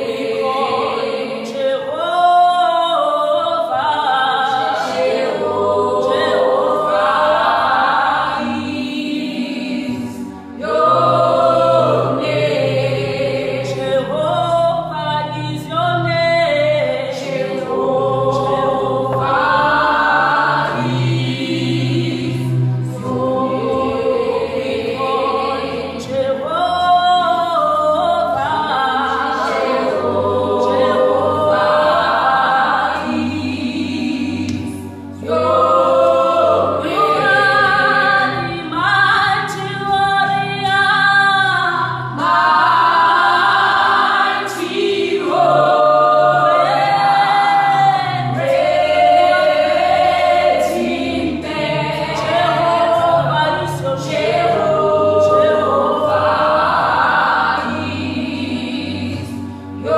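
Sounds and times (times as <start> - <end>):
gospel choir singing: 0.0 - 59.9.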